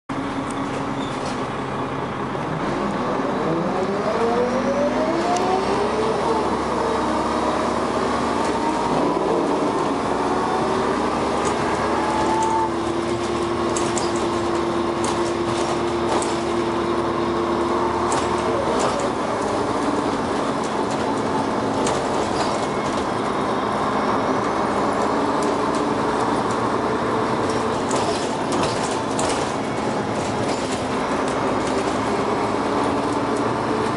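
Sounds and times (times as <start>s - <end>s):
bus engine and gearbox whining: 0.1s - 33.9s.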